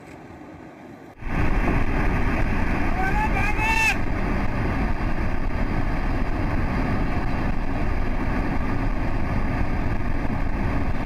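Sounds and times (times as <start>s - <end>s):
flood water rushing: 1.2s - 11.0s.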